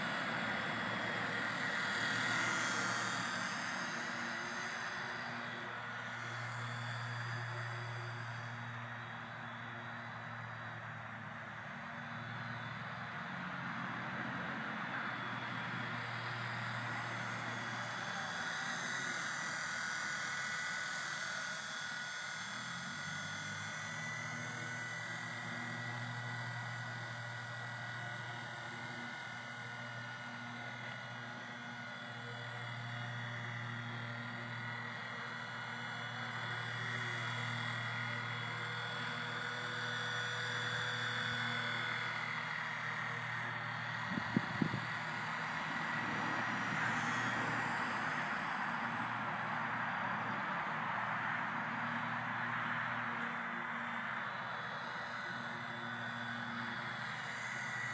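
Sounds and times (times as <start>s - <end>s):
toy helicopter motor whine: 0.0s - 57.9s.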